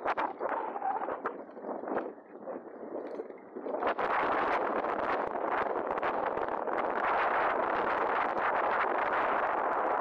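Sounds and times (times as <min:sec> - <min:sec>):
wind over microphone: 0:00.0 - 0:10.0.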